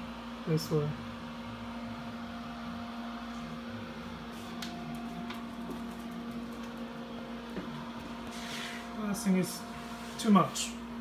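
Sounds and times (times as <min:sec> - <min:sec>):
fridge cooling unit humming: 0:00.0 - 0:11.0.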